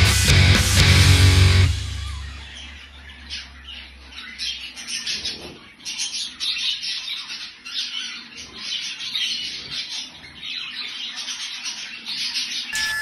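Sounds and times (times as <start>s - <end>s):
budgerigars chirping and squawking: 0.4s - 13.0s.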